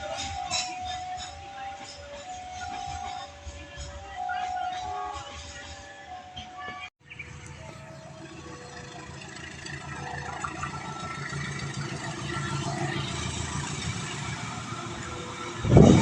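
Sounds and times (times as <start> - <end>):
train engines humming: 0.0 - 16.0.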